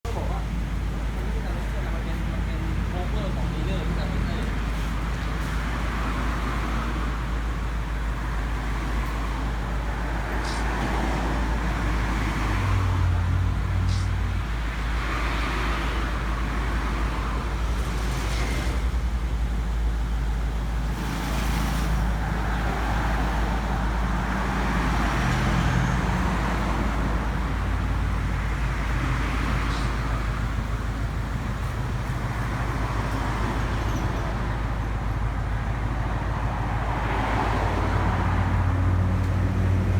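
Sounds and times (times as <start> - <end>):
road traffic noise: 0.0 - 39.9
vehicle engine rumbling: 0.0 - 39.9.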